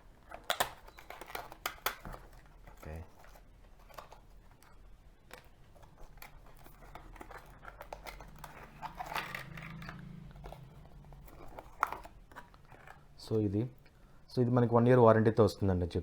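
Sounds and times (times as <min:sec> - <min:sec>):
packaging crinkling and clicking: 0:00.0 - 0:14.0
rustling: 0:00.0 - 0:14.2.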